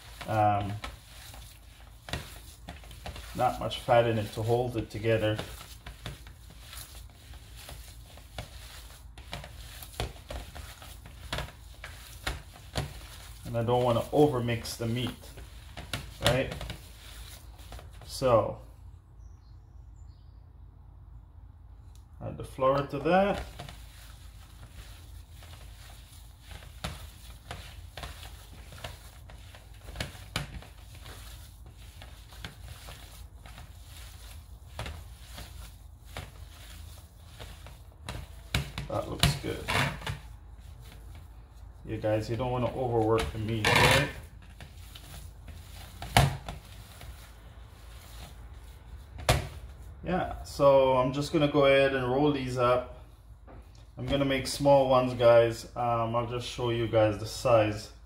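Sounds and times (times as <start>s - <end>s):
wet squishes of kneaded meat: 0.0s - 18.4s, 22.6s - 50.7s.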